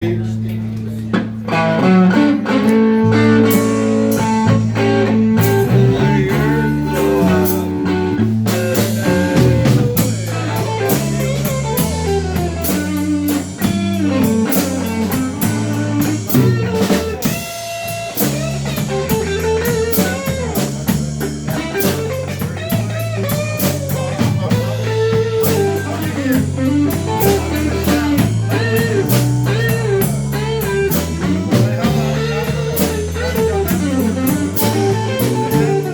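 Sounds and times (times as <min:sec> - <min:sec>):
bass guitar: 0:00.0 - 0:35.9
electric guitar lines: 0:00.0 - 0:35.9
drum kit: 0:00.4 - 0:35.9.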